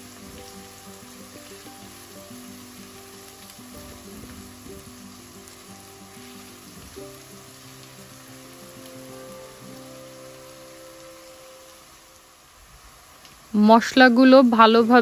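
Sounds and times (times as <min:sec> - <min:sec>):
soft background music: 0:00.0 - 0:12.4
onion sizzling in a frying pan: 0:00.0 - 0:15.0.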